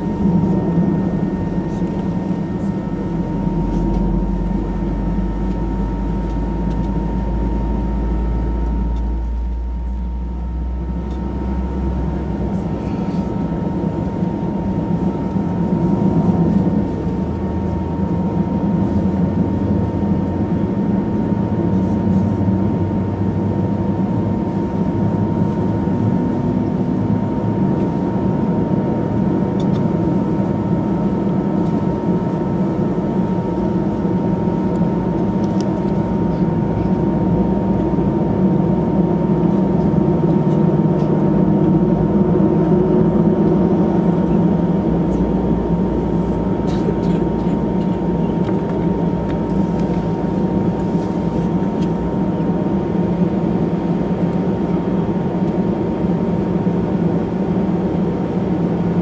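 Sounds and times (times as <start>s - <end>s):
high engine whine: 0.0s - 59.0s
jet engines idling low rumble: 0.0s - 59.0s.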